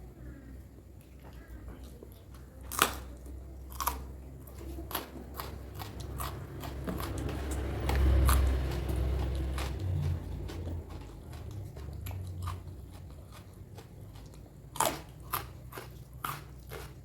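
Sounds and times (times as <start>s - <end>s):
crunchy food biting and chewing: 2.6s - 17.0s.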